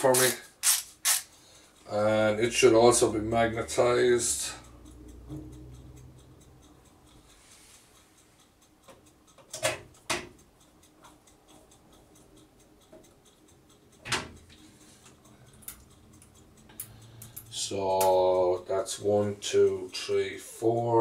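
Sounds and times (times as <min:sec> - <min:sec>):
ratchet screwdriver ticking: 0:00.0 - 0:07.4, 0:08.2 - 0:21.0
sharp metallic clicks: 0:00.0 - 0:21.0.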